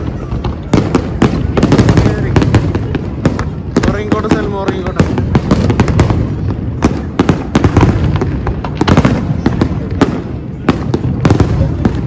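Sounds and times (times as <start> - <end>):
continuous low booming: 0.0 - 12.0
fireworks bangs and cracks: 0.0 - 12.0.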